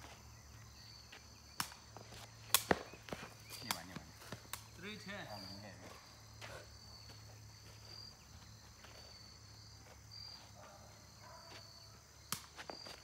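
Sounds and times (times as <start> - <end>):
insect trills: 0.0 - 13.0.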